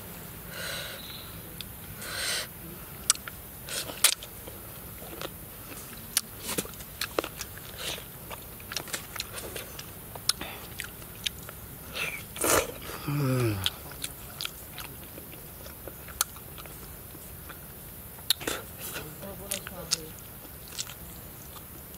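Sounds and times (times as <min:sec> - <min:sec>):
person chewing fish: 0:03.0 - 0:21.9.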